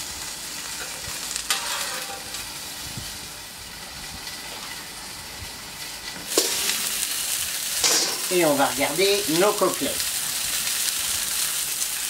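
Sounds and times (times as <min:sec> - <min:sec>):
meat sizzling under a dome: 0:00.0 - 0:12.0.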